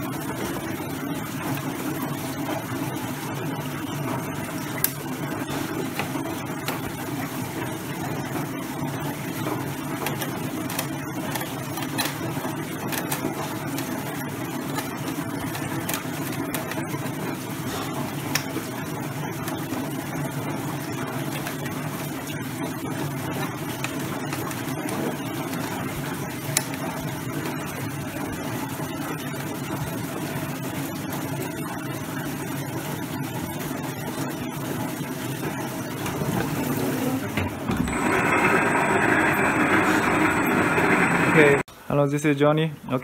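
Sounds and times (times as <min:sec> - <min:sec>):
etching machine humming: 0:03.6 - 0:41.7.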